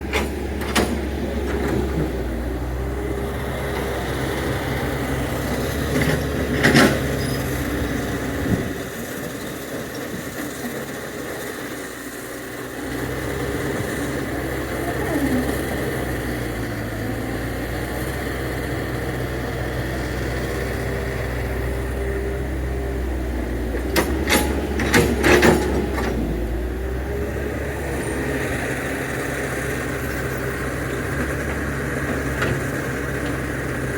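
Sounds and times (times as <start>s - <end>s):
excavator engine running: 0.0s - 33.9s.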